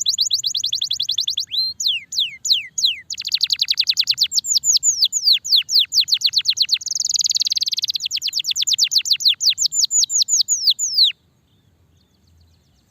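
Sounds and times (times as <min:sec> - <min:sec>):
canary singing: 0:00.0 - 0:12.9.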